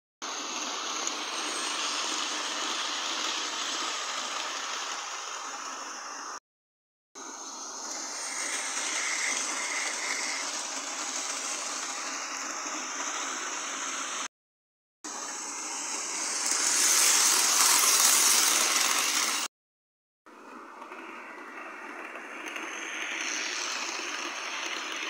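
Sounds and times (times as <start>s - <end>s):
model train whirring rattle: 0.3s - 6.4s, 7.2s - 14.3s, 15.2s - 19.5s, 20.4s - 25.0s.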